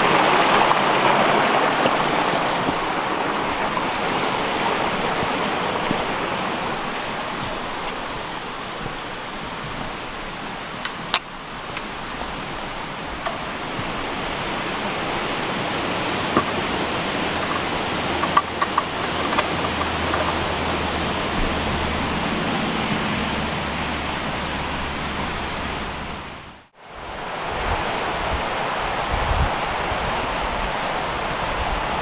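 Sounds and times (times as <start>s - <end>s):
stream rushing: 0.0s - 32.0s.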